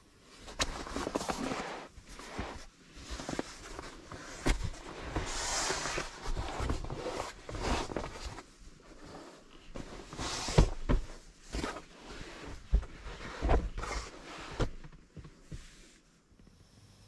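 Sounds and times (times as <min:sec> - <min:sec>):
fabric mat rustling: 0:00.2 - 0:16.1.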